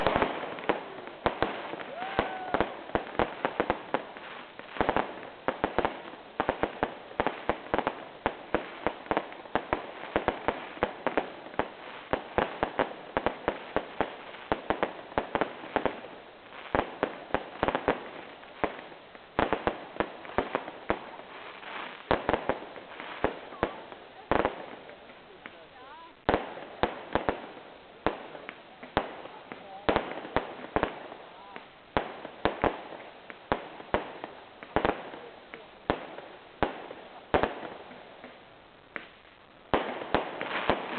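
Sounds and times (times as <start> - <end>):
fireworks bangs and cracks: 0.0 - 40.9.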